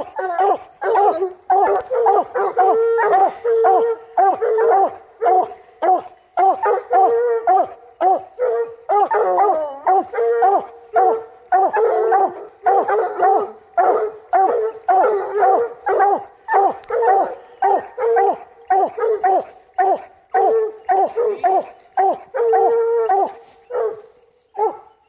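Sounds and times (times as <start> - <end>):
dogs barking: 0.0 - 25.0.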